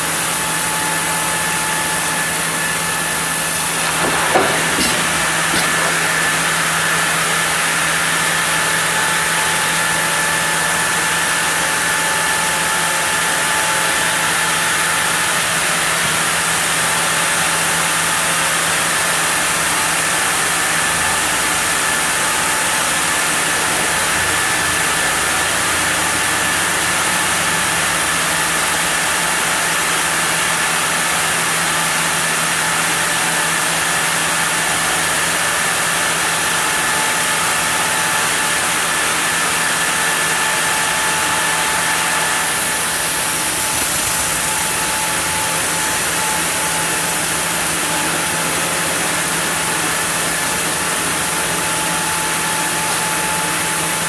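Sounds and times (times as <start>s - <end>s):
sawmill saw humming and whining: 0.0s - 54.0s.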